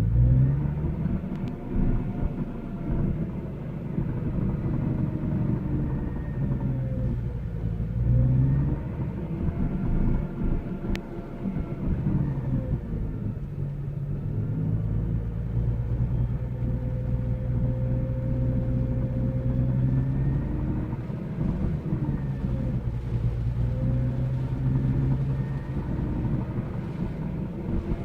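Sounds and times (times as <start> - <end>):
car engine running: 0.0 - 28.0
exhaust rattling: 0.0 - 28.0.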